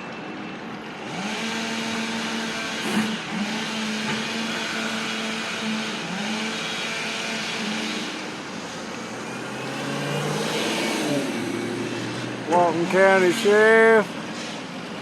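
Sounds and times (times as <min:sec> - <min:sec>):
road noise: 0:00.0 - 0:15.0
vehicle engine running: 0:00.8 - 0:15.0.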